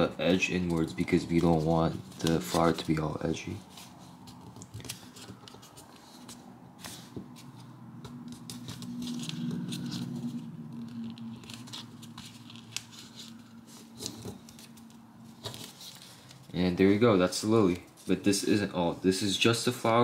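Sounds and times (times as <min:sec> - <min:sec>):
steady low hum: 0:00.0 - 0:18.2
paper rustling and crinkling: 0:00.0 - 0:18.4.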